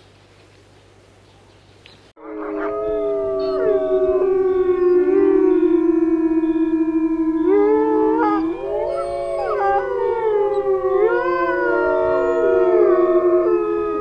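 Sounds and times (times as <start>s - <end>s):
wolves howling in chorus: 2.2s - 14.0s.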